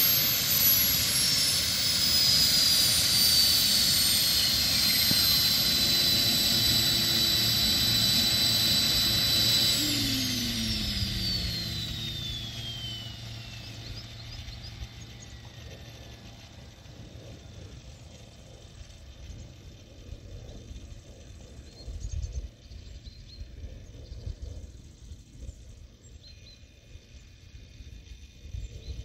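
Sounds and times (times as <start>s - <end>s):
model helicopter whine and rotor: 0.0s - 29.0s.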